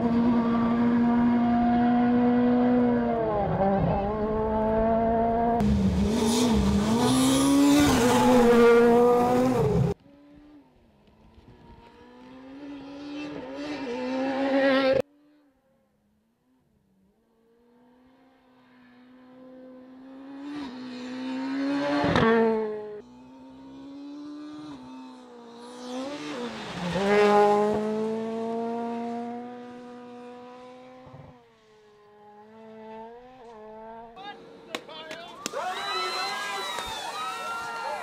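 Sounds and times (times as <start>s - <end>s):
rally car engines at full throttle: 0.0s - 15.5s, 17.0s - 35.1s.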